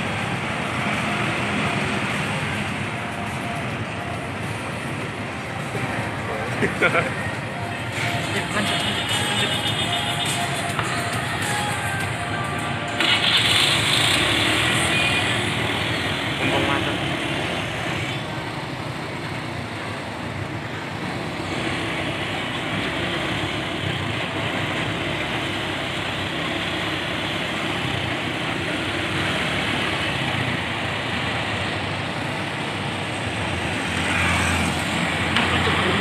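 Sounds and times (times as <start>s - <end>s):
locomotive engine: 0.0s - 36.0s.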